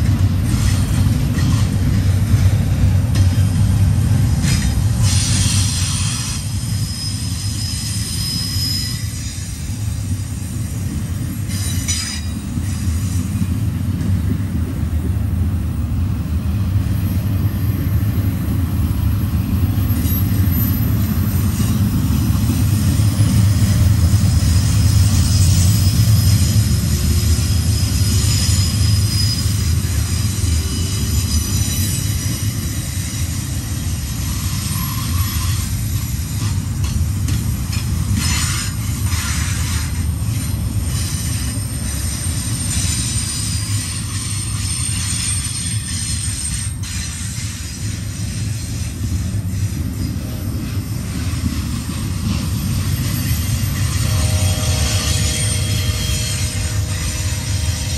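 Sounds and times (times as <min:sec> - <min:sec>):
high wheel squeals: 0:04.3 - 0:13.5, 0:16.8 - 0:57.9.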